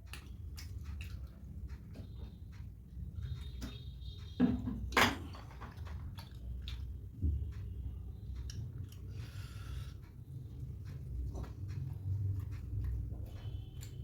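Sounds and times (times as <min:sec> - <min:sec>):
person chewing soft food: 0:00.0 - 0:04.4, 0:05.7 - 0:14.0.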